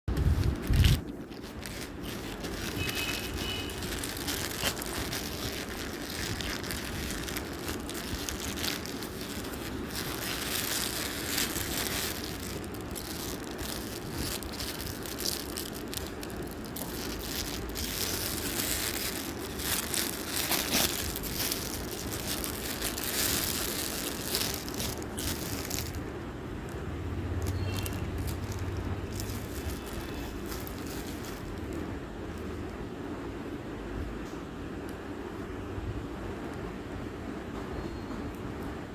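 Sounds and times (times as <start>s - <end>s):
plastic packaging crinkling: 0.1s - 32.6s.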